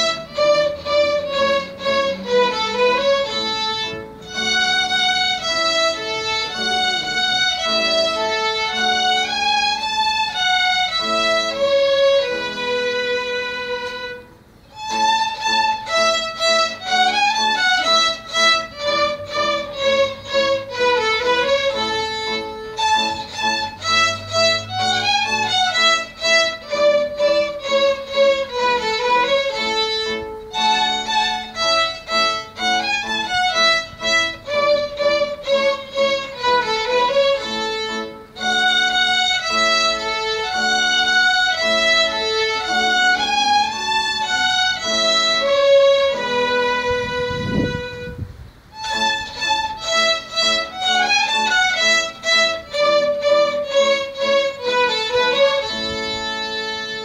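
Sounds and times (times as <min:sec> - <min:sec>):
violins playing a tune: 0:00.0 - 0:57.0.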